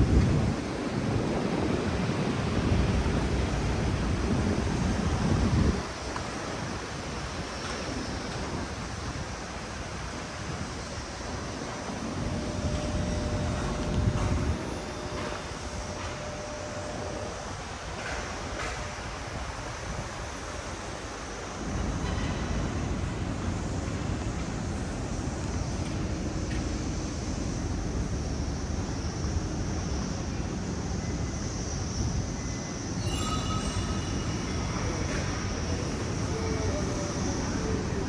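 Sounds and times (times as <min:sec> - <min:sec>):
city road traffic: 0:00.0 - 0:30.7.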